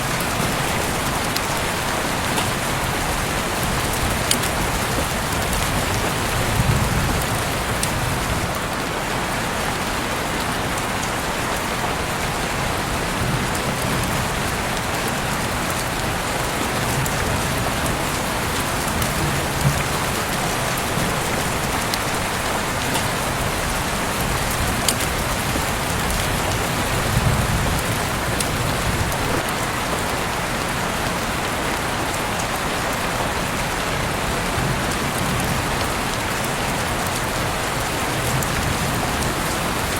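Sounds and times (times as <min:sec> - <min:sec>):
heavy rain falling: 0:00.0 - 0:39.9
rain drops ticking: 0:00.0 - 0:39.9.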